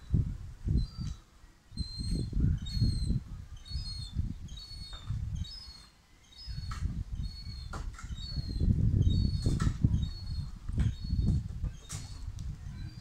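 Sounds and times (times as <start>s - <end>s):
gusty low rumbling: 0.0s - 1.1s, 1.8s - 5.6s, 6.5s - 13.0s
birds chirping: 0.0s - 13.0s.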